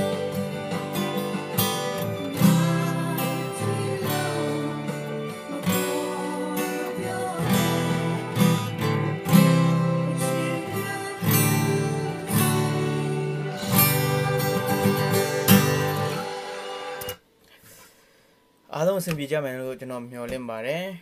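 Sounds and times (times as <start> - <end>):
acoustic guitar strumming chords: 0.0 - 17.2.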